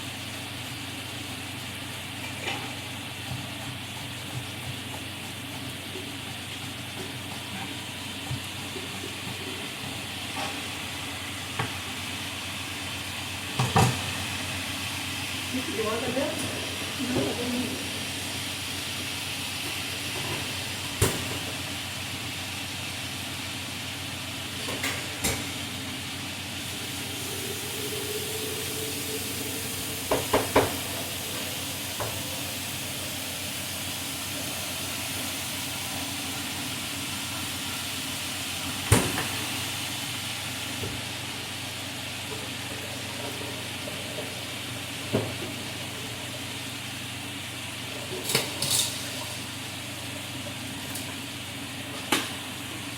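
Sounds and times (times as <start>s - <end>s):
food sizzling in a frying pan: 0.0s - 52.9s.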